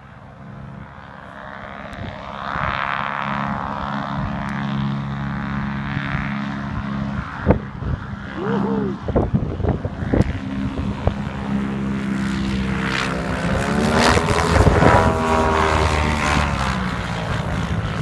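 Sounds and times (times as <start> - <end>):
ultralight engine and propeller: 0.0 - 18.0.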